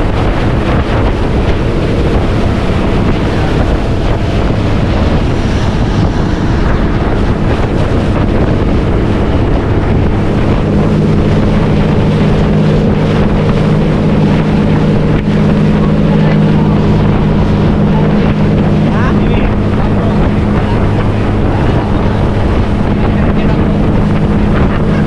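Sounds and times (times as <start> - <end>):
motorboat engine droning: 0.0 - 25.0
water rushing past hull: 0.0 - 25.0
wind buffeting microphone: 0.0 - 25.0.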